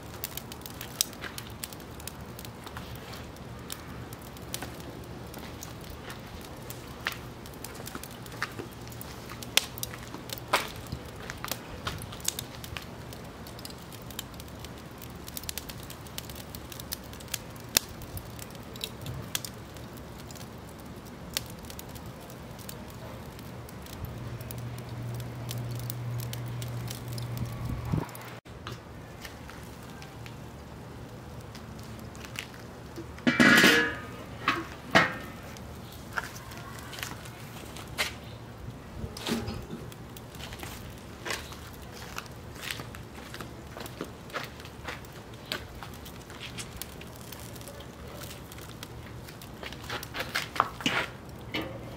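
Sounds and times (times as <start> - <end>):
charcoal crackling and popping: 0.0 - 51.9.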